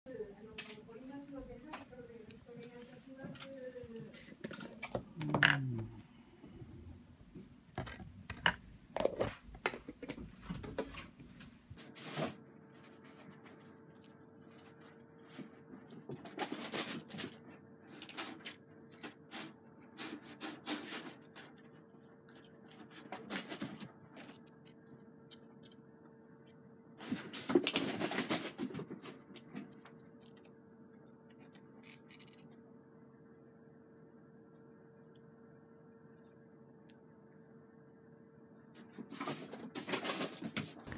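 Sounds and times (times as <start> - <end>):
faint steady hum: 0.1 - 40.9.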